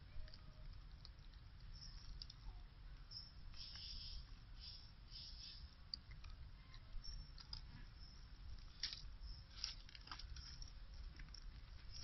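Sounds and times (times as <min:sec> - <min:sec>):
low steady rumble: 0:00.0 - 0:12.0
monkeys chewing seeds crackling: 0:00.1 - 0:12.0.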